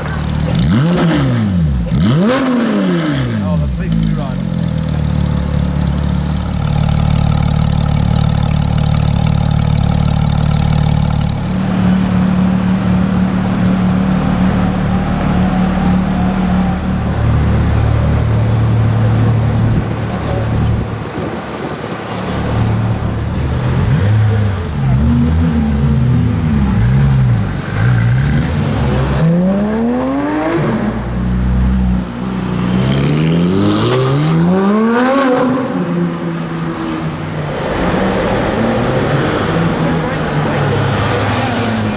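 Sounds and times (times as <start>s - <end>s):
sports car engine revving: 0.0s - 41.9s.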